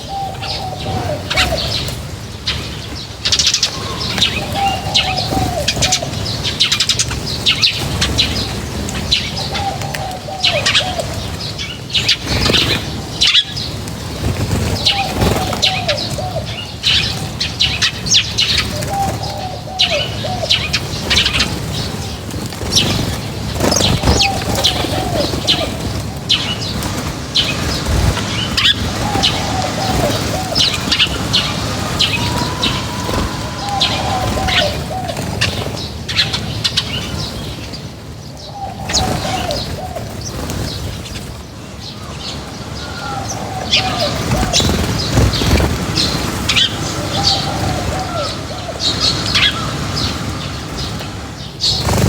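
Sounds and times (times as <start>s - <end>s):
low falling bird call: 0.0s - 37.6s, 38.3s - 52.0s
small birds chirping: 0.0s - 52.0s.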